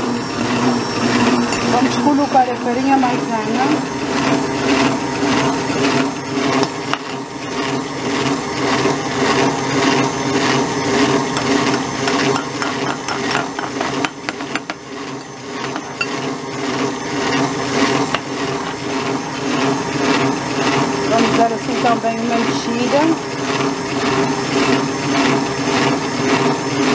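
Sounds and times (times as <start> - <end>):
stand mixer motor running: 0.0 - 26.9.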